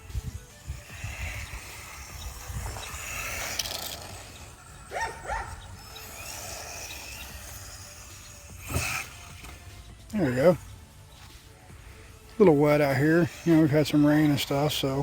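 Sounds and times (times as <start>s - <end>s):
rc truck motor whining: 0.0s - 15.0s.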